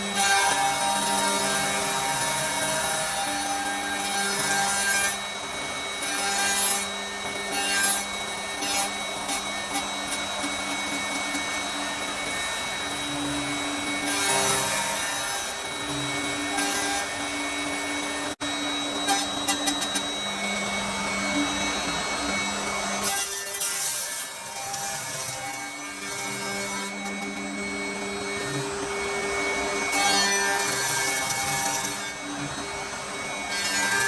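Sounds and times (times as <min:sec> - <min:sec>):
rasping wood cutting: 0:00.0 - 0:34.0.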